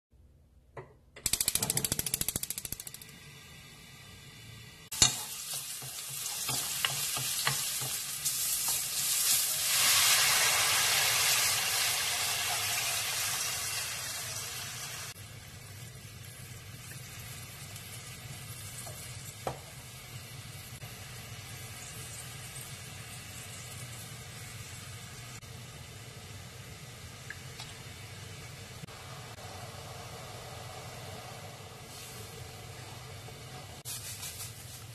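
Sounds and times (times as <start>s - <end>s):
hot oil sizzling: 1.2s - 34.9s.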